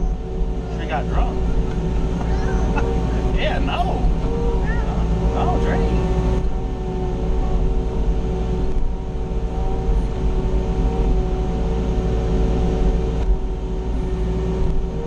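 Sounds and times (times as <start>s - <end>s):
excavator diesel engine rumble: 0.0s - 15.0s
hydraulic whine: 0.0s - 15.0s.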